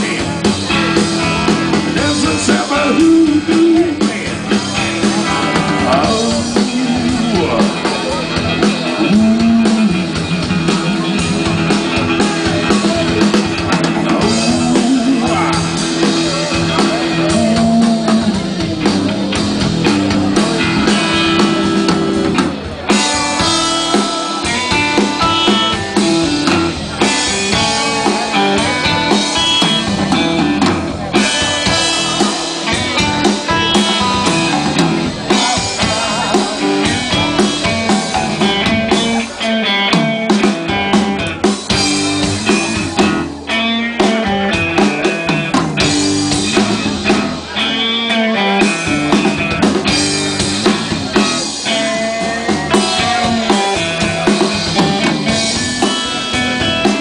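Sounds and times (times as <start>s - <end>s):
blues-rock band playing loudly: 0.0s - 57.0s.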